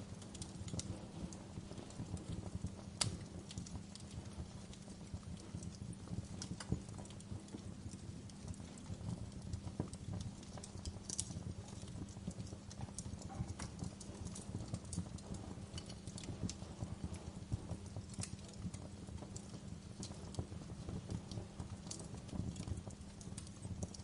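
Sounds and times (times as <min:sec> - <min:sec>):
low rumble of flame: 0:00.0 - 0:24.0
wood fire crackling and popping: 0:00.0 - 0:24.0.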